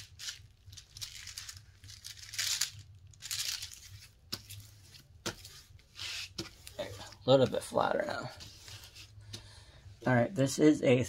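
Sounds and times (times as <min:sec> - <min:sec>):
canvas crinkling and rustling: 0:00.0 - 0:09.3.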